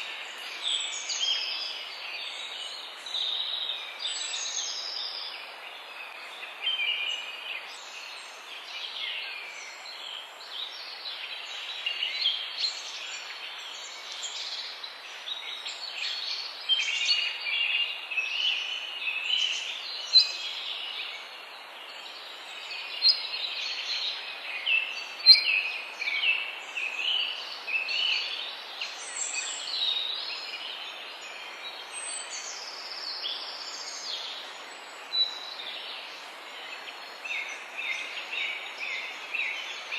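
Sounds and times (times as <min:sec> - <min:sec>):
songbirds chorus: 0:00.0 - 0:39.9
steady background hiss: 0:00.0 - 0:39.9.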